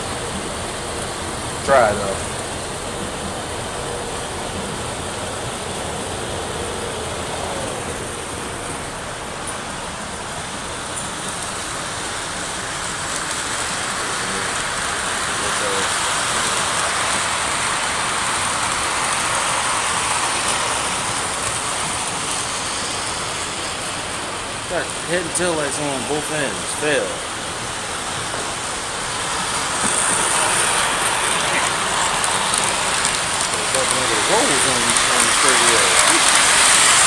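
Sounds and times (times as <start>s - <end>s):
model trains rumbling: 0.0s - 37.0s.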